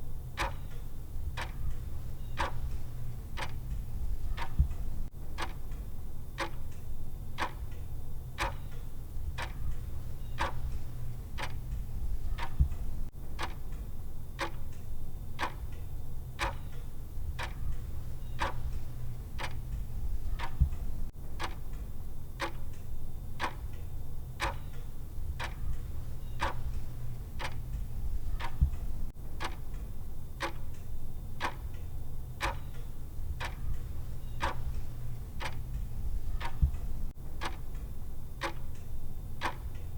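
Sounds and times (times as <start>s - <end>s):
low steady hum: 0.0s - 39.9s
clock ticking: 0.4s - 5.8s, 6.4s - 6.8s, 7.4s - 7.8s, 8.4s - 13.8s, 14.4s - 14.8s, 15.4s - 15.8s, 16.4s - 21.8s, 22.4s - 23.8s, 24.4s - 39.9s.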